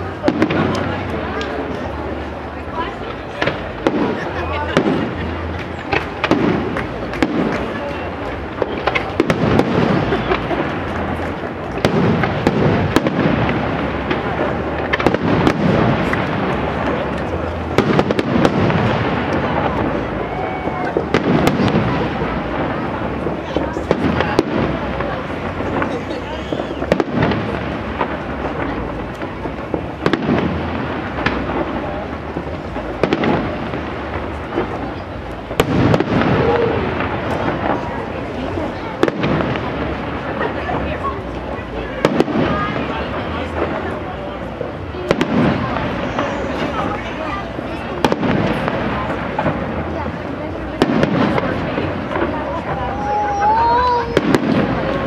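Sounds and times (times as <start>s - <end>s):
rolling rumble: 0.0s - 55.0s.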